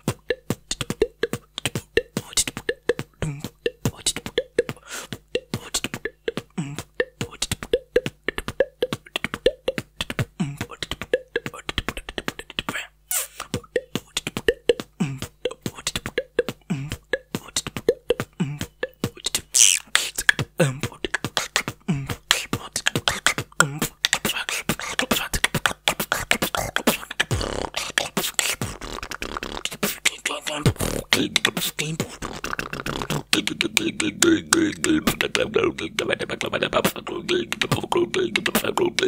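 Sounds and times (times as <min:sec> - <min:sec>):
beatboxing mouth clicks: 0:00.0 - 0:39.0.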